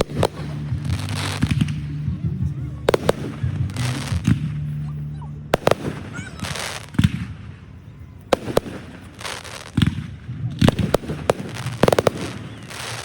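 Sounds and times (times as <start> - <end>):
fireworks bangs and booms: 0.0 - 13.0
fireworks crackling: 0.0 - 13.0.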